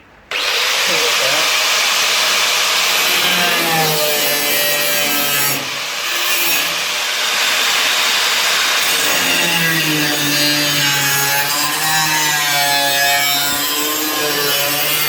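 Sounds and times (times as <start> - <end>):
power tool cutting steel: 0.3 - 15.0.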